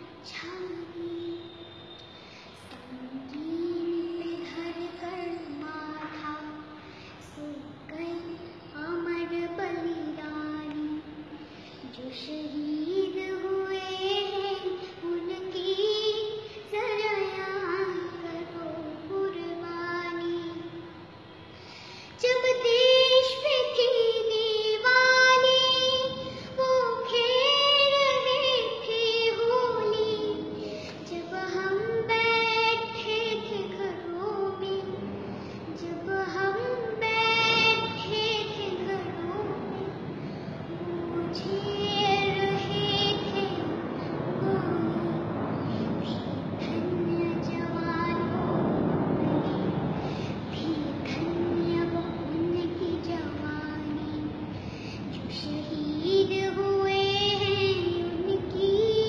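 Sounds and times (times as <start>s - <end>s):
girl singing solo: 0.0s - 21.0s, 21.6s - 59.0s.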